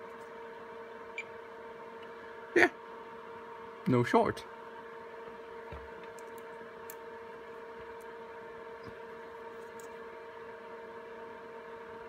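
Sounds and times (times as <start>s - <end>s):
electrical hum with whine: 0.0s - 12.0s.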